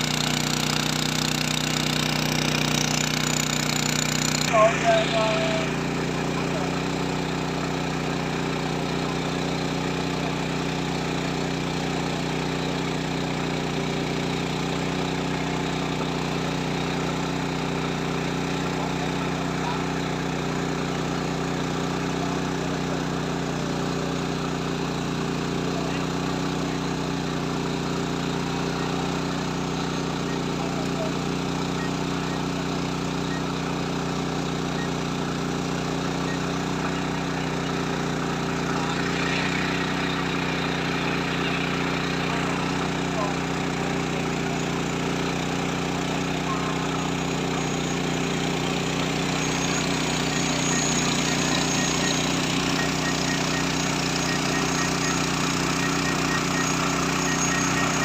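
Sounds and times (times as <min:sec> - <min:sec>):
steady engine-like hum: 0:00.0 - 0:58.0.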